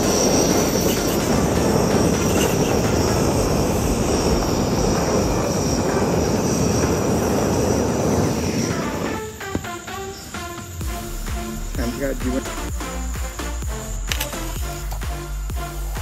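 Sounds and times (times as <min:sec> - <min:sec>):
gas burner flame rushing: 0:00.0 - 0:13.2.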